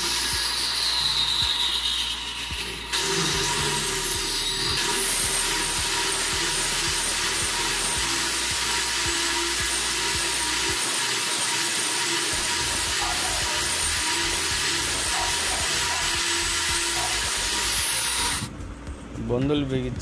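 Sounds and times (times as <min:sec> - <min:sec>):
power tool cutting wood: 0:00.0 - 0:18.5.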